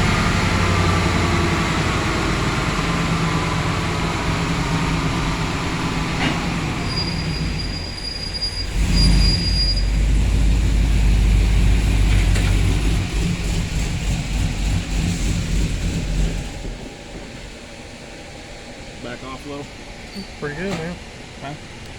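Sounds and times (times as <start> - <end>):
truck engine running hard: 0.0 - 21.9.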